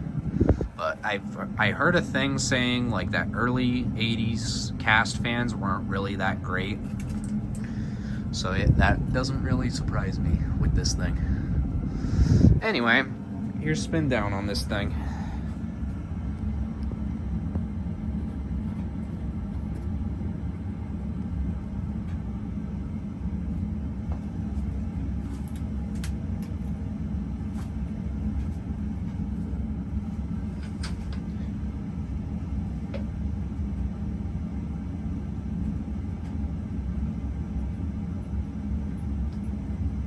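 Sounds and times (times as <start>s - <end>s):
ceiling fan coasting down: 0.0s - 40.0s
furnace rumbling: 0.0s - 40.0s.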